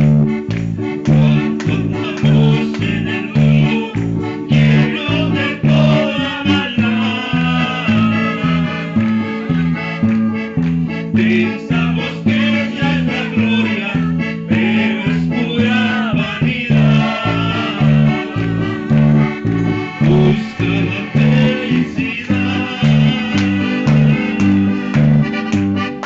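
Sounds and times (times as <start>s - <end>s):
bass notes: 0.0s - 26.0s
higher melody line: 0.0s - 26.0s
strummed guitar: 0.0s - 26.0s.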